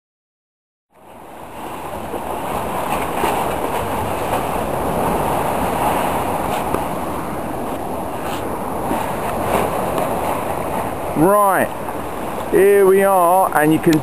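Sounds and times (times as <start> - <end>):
sea surf breaking: 1.0 - 14.0.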